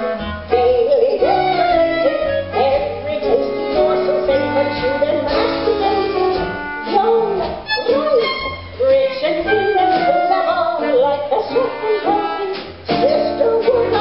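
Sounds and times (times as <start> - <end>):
instrumental accompaniment: 0.0 - 14.0
woman singing a show tune: 0.5 - 14.0.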